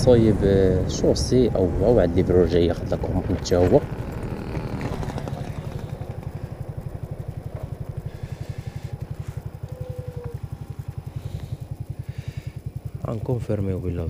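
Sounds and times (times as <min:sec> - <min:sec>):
motorbike engine puttering: 0:00.0 - 0:14.0.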